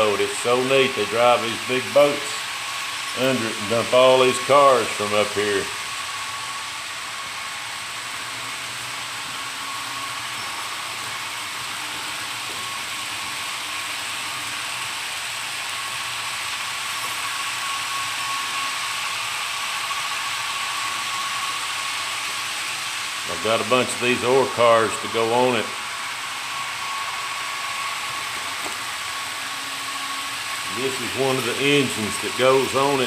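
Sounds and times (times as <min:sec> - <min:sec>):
model train motor whir: 0:00.0 - 0:33.0
thin steady whine: 0:00.0 - 0:33.0.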